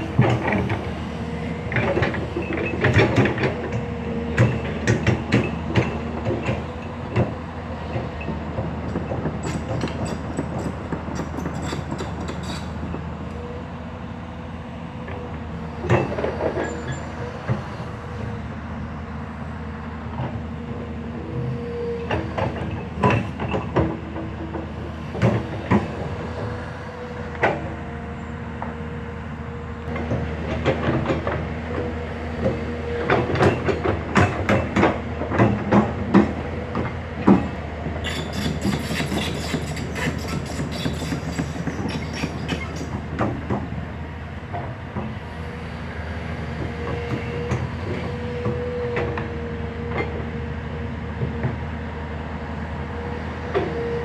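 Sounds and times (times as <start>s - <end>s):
excavator engine droning: 0.0s - 54.0s.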